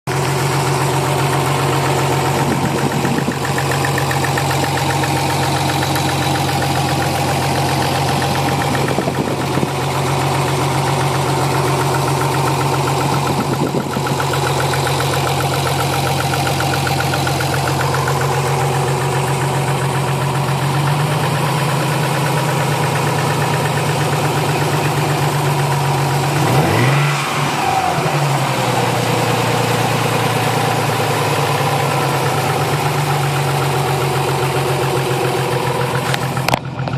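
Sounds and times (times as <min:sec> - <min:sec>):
car engine idling: 0:00.0 - 0:36.9
rhythmic engine knock: 0:00.1 - 0:26.9, 0:28.1 - 0:36.9.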